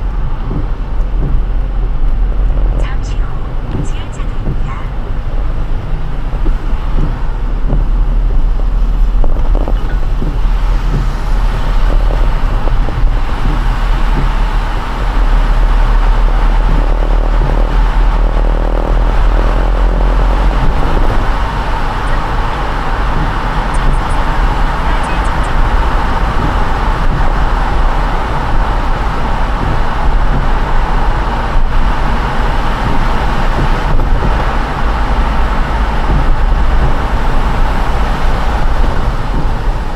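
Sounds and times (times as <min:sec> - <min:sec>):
car engine and road rumble: 0:00.0 - 0:39.9
tyres hissing on wet pavement: 0:03.7 - 0:39.9.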